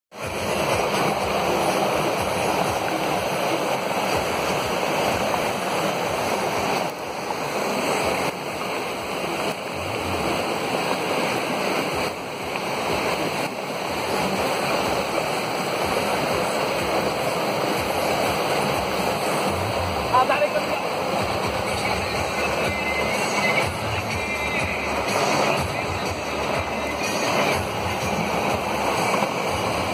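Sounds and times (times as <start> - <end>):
floodwater rushing: 0.1 - 29.9.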